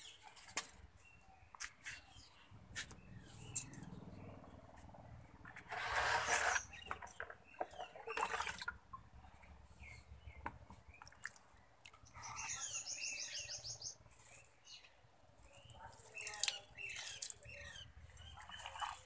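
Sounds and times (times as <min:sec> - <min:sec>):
birds chirping: 0:00.0 - 0:05.6, 0:06.2 - 0:19.0.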